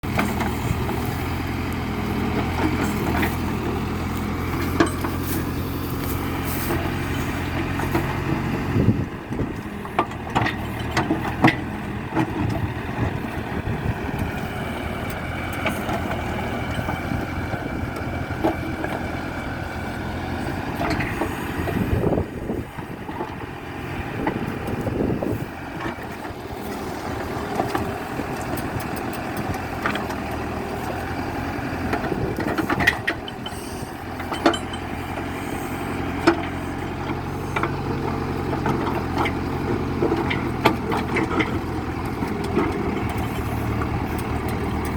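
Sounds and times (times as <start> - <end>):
backhoe diesel engine: 0.0 - 44.9.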